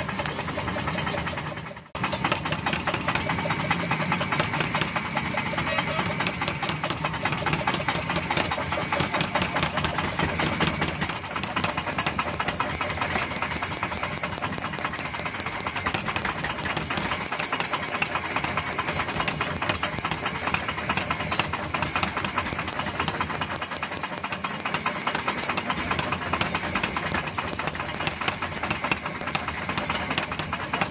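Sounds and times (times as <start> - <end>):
power hammer pounding steel: 0.0 - 30.9.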